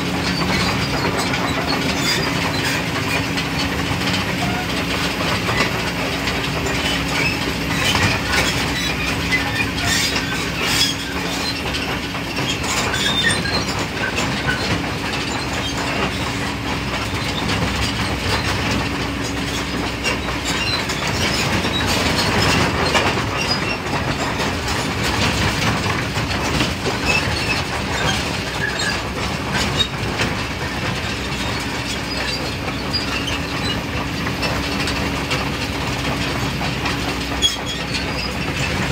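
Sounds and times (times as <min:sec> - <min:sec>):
diesel engine humming: 0:00.0 - 0:38.9
excavator clanking and rattling: 0:00.0 - 0:38.9.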